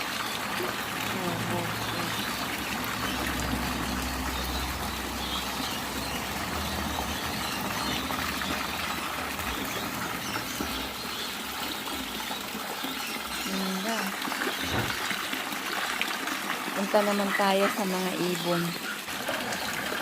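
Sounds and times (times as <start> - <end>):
running water in a pond: 0.0 - 20.0.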